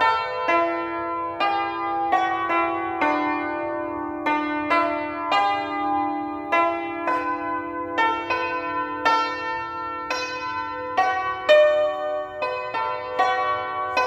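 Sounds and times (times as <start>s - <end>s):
hammered dulcimer melody: 0.0s - 14.0s.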